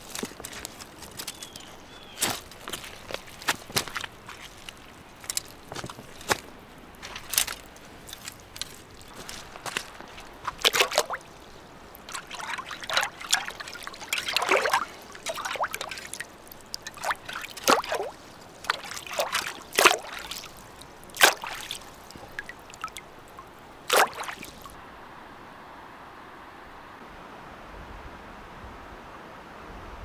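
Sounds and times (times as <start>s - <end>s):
fence wire moved in water: 0.0s - 24.8s
shallow water splashing: 0.0s - 24.8s.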